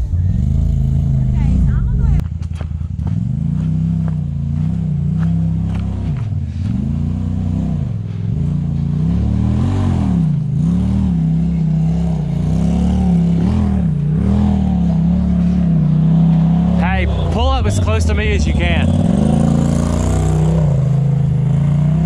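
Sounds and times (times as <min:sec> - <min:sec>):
utility vehicle engine running: 0:00.0 - 0:22.0.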